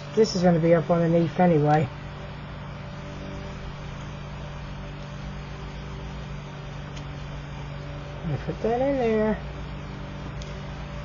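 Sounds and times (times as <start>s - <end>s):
low droning hum: 0.0s - 11.0s.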